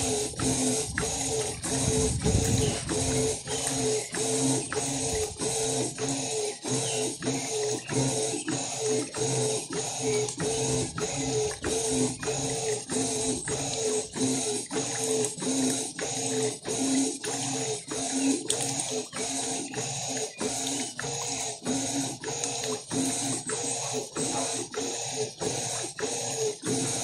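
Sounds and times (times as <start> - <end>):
washing machine agitating: 0.0 - 27.0.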